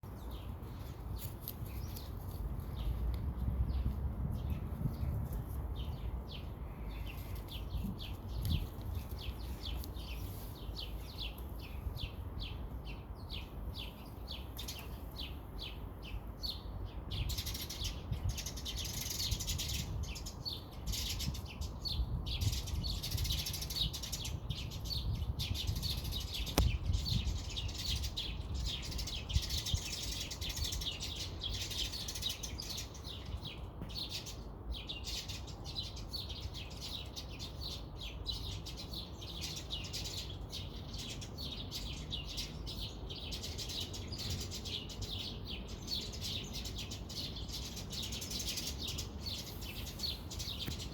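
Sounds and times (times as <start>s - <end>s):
birds chirping: 3.7s - 50.9s.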